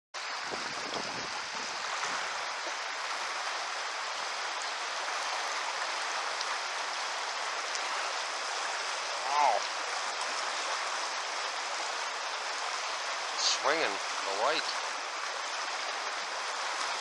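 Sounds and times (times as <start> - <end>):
river current flowing over riffle: 0.2 - 17.0.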